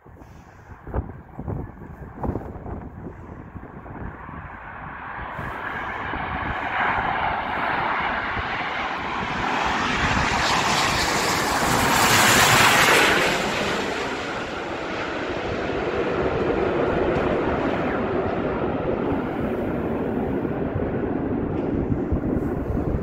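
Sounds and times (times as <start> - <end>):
jet airliner passing overhead: 0.0 - 23.0.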